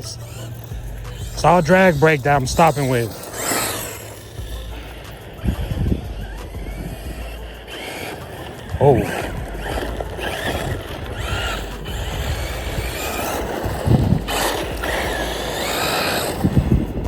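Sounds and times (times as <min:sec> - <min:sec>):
rc car motor whine: 0:00.0 - 0:17.0
tyres on dirt: 0:00.0 - 0:17.0
wind: 0:00.0 - 0:17.0.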